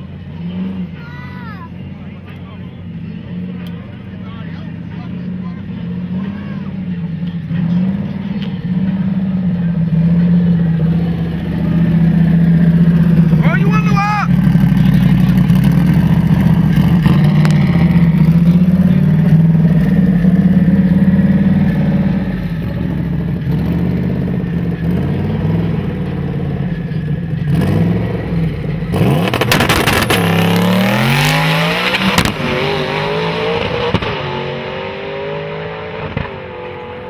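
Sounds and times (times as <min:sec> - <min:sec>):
car engine revving and accelerating: 0:00.0 - 0:01.0, 0:01.8 - 0:37.0.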